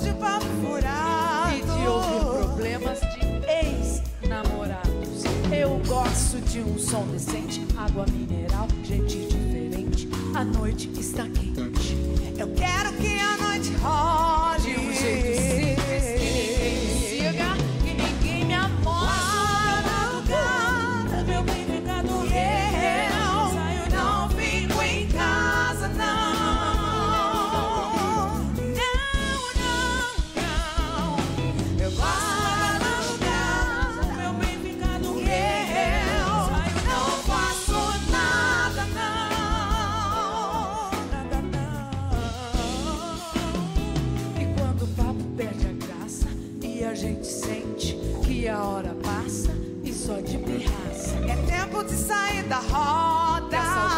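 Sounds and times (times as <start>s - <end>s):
vocal group singing with band: 0.0s - 53.9s
woman singing lead with vibrato: 0.0s - 53.9s.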